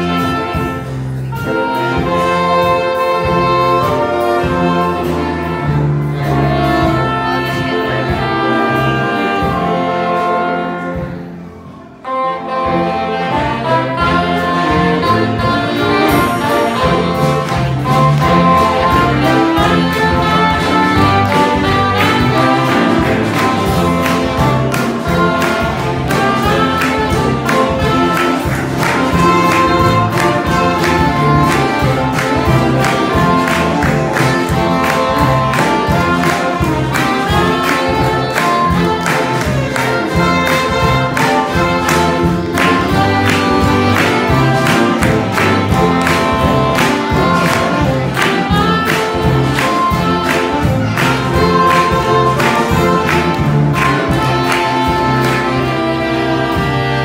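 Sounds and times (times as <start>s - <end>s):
saxophone quartet playing a hymn: 0.0s - 57.0s.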